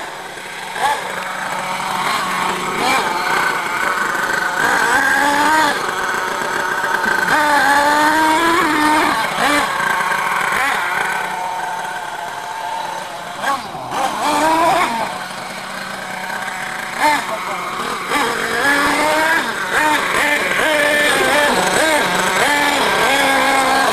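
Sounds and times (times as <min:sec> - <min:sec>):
small nitro engine revving: 0:00.0 - 0:23.9.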